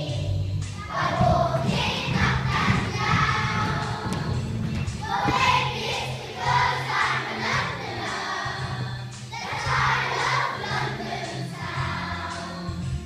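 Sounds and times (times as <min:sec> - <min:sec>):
children singing in unison: 0:00.0 - 0:12.9.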